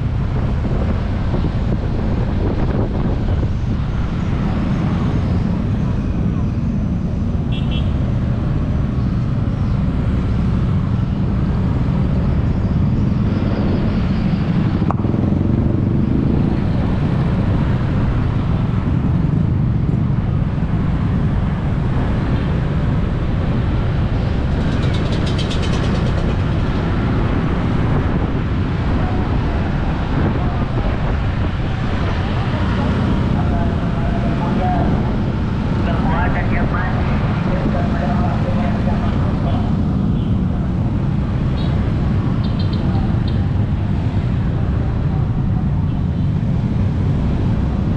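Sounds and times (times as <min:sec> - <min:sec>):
motor vehicles rumbling: 0:00.0 - 0:47.9.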